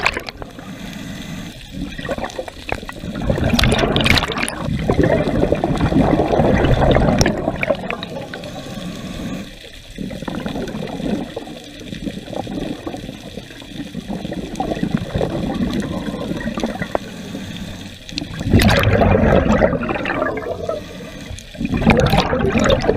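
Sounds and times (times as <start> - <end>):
underwater breath bubbles: 0.0 - 22.9.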